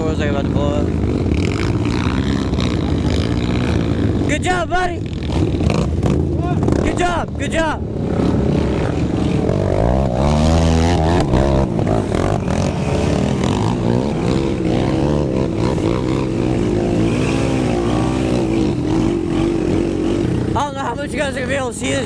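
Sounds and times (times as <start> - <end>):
quad engine revving: 0.0 - 22.0.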